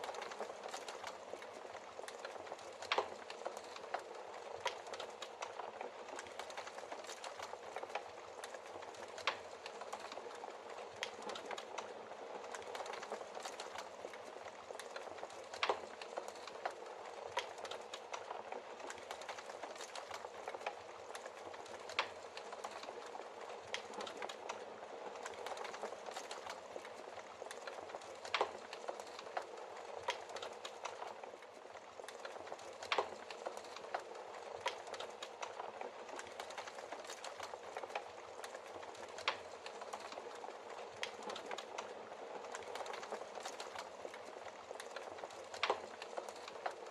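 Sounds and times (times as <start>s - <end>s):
fire crackling: 0.0s - 46.9s.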